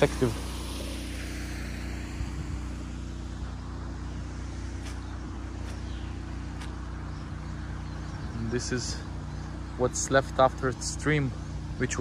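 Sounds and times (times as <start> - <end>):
water pump droning: 0.0 - 12.0.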